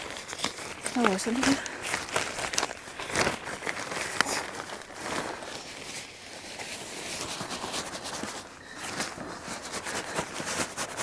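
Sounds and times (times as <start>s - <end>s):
fabric rustling and crinkling: 0.0s - 11.0s.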